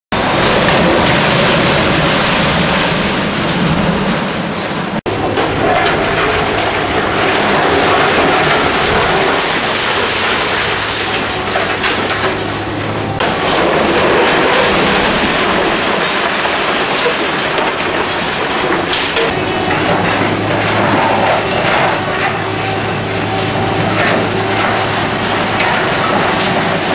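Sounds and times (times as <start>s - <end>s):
excavator engine droning: 0.1s - 26.9s
heavy crashes: 0.1s - 26.9s
concrete breaking and rubble falling: 5.1s - 26.9s.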